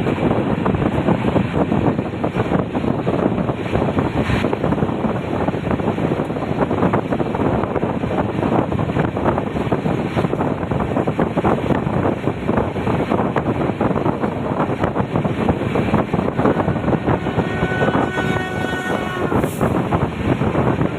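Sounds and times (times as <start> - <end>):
moving train running noise: 0.0 - 20.9
wind buffeting: 0.0 - 20.9.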